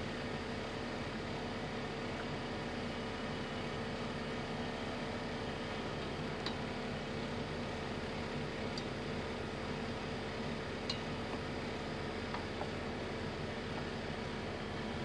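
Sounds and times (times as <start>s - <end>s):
cooktop fan hum: 0.0s - 15.0s.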